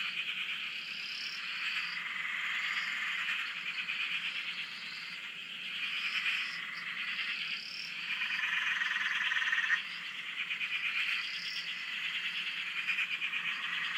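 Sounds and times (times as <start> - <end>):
frogs trilling: 0.0 - 13.9
steady frog call: 0.0 - 13.9.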